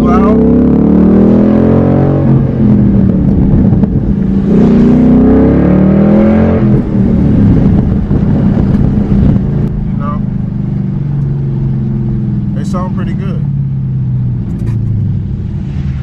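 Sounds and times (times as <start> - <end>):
loud car engine revving: 0.0 - 16.0.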